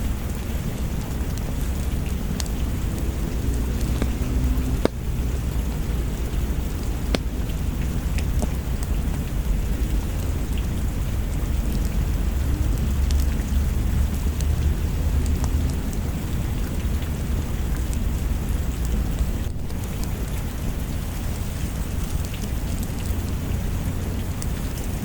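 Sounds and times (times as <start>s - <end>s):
low rumble of thunder: 0.0s - 25.0s
steady rain: 0.0s - 25.0s
wood fire crackles: 0.0s - 25.0s.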